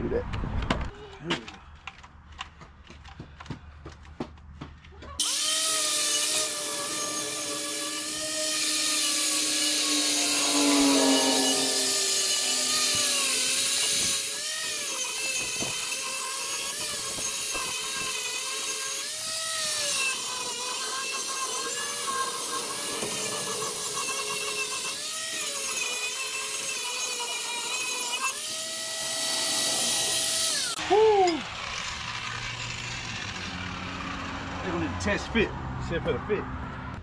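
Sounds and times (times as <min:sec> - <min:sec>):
angle grinder grinding steel: 0:05.2 - 0:35.4.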